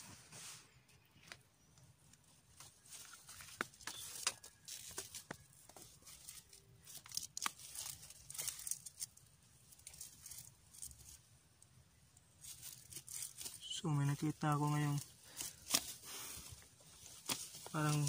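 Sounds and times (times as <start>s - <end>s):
twigs and leaves rustling: 0.0s - 18.0s.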